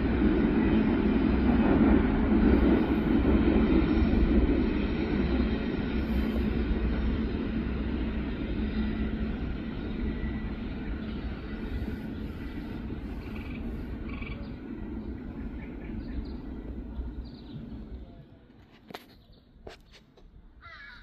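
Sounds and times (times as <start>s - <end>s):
freight train rumbling: 0.0s - 20.6s.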